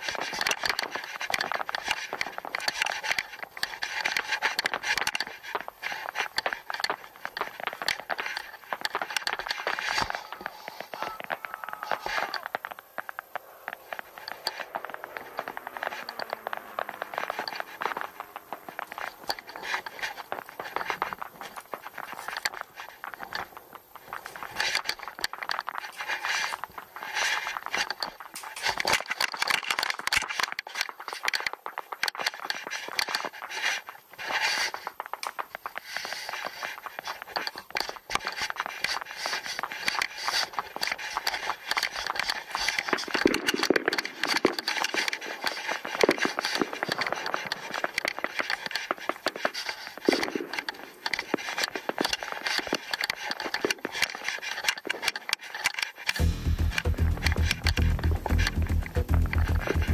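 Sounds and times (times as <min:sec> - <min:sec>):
clicking and scraping: 0:00.0 - 0:59.9.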